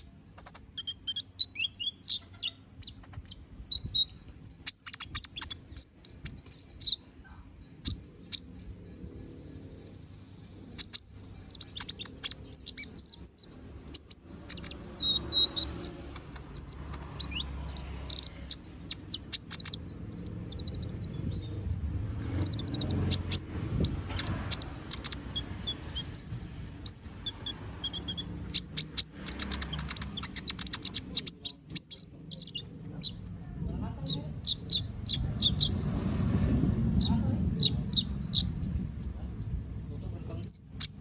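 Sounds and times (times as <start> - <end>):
bird singing chirps and trills: 0.0 - 36.0, 36.6 - 41.0
faint low hum: 0.0 - 40.4.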